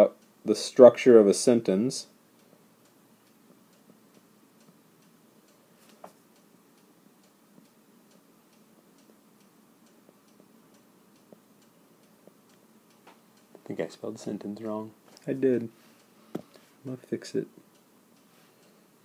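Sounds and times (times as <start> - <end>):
faint regular ticking: 0.0 - 19.0.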